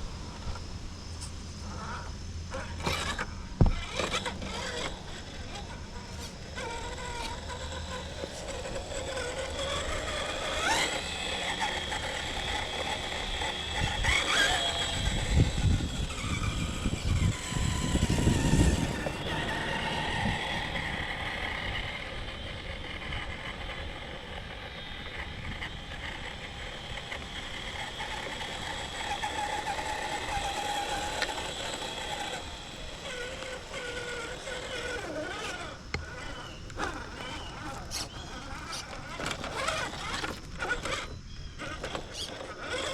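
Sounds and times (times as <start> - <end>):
electric motor and drivetrain whining: 0.0 - 42.9.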